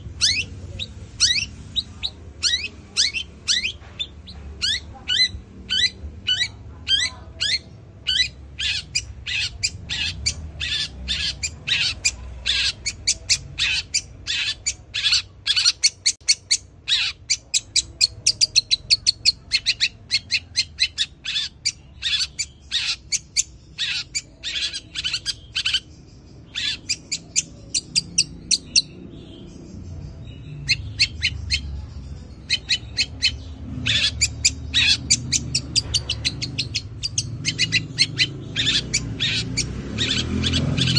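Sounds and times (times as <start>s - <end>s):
bird chirping sharply: 0.0s - 40.9s.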